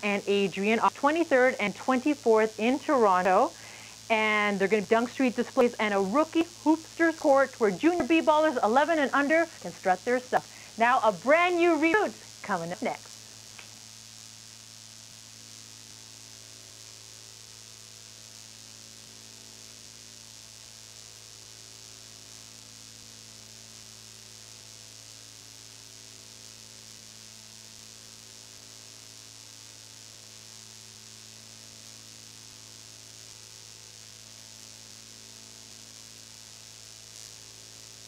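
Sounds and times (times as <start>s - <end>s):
bright hiss: 0.0s - 38.0s
low electrical hum: 0.0s - 38.0s.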